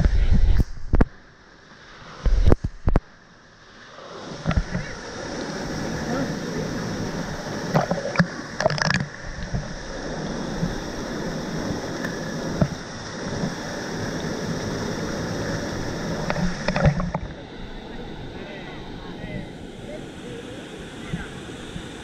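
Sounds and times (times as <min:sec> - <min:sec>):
waterfall rushing: 0:04.3 - 0:22.0.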